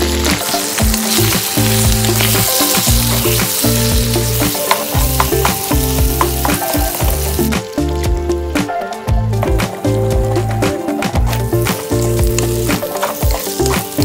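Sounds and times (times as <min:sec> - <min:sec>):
food sizzling in a wok: 0:00.0 - 0:08.0, 0:09.5 - 0:14.0.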